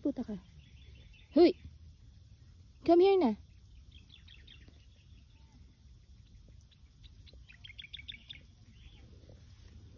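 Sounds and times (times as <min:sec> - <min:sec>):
faint bird chirps: 0:00.0 - 0:09.9
low outdoor rumble: 0:00.0 - 0:09.9.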